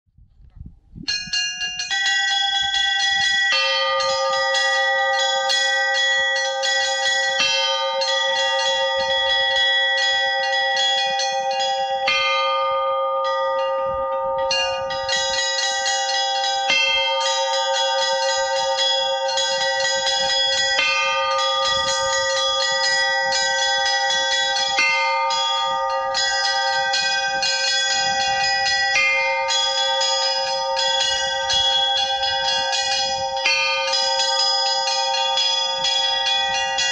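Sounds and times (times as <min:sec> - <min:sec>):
low bell striking: 0:01.0 - 0:36.9
small bells chiming: 0:01.1 - 0:36.9.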